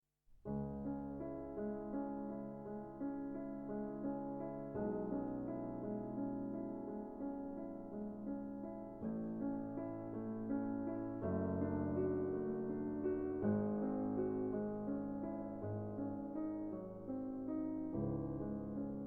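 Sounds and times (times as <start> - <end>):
soft piano chords: 0.4 - 19.0.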